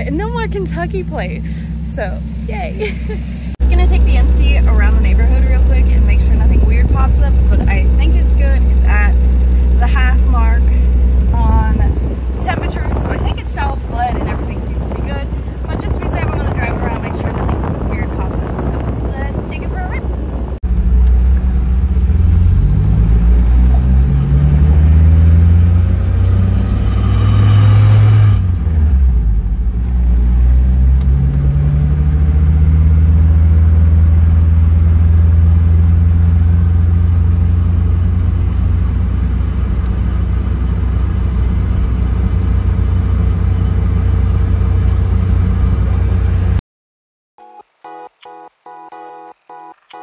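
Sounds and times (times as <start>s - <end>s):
car engine accelerating: 0.0s - 46.6s.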